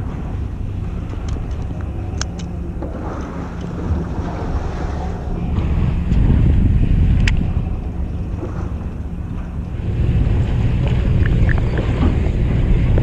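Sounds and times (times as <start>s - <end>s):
boat engine rumble: 0.0s - 13.0s
water washing against hull: 0.0s - 13.0s
wind buffeting microphone: 0.0s - 13.0s.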